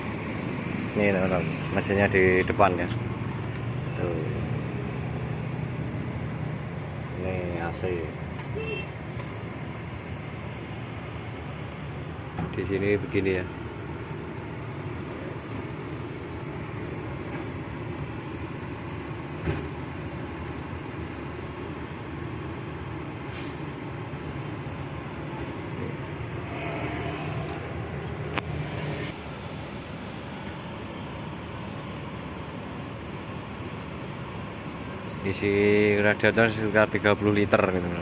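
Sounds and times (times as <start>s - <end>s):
bus engine idling: 0.0s - 26.5s, 27.2s - 38.0s.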